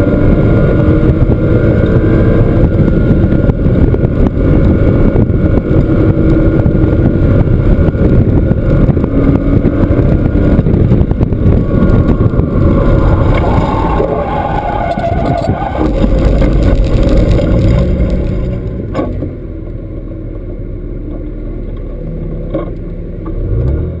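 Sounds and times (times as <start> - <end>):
car engine at speed: 0.0 - 24.0
road and wind noise: 0.0 - 24.0.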